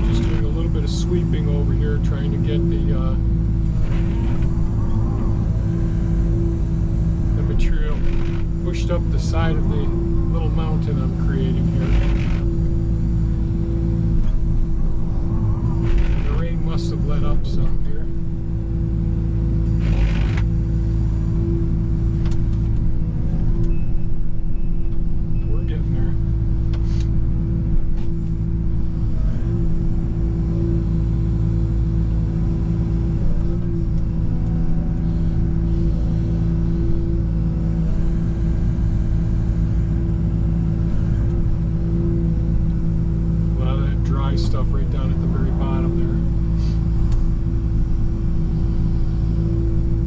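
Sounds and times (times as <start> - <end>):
constant whine: 0.0 - 50.0
excavator running: 0.0 - 50.0.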